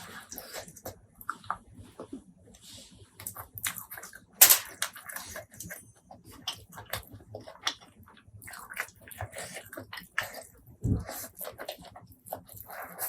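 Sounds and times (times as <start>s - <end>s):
person chewing with wet smacking: 0.0s - 2.2s, 3.2s - 4.2s, 5.0s - 13.0s.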